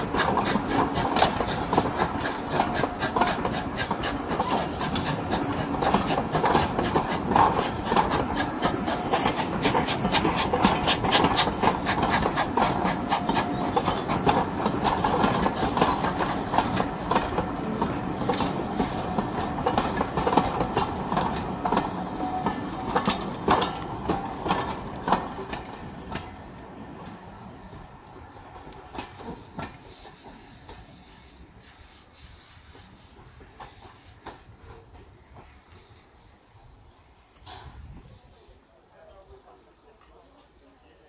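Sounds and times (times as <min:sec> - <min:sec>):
train wheels clattering on track: 0:00.0 - 0:38.2.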